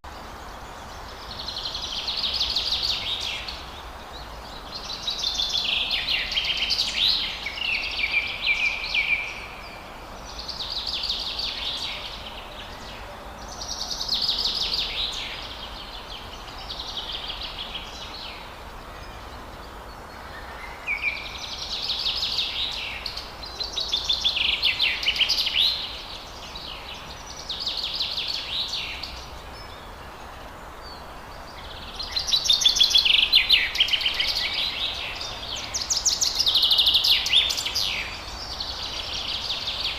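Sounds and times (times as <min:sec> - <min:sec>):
background hiss: 0:00.0 - 0:39.9
songbirds warbling: 0:00.1 - 0:39.9.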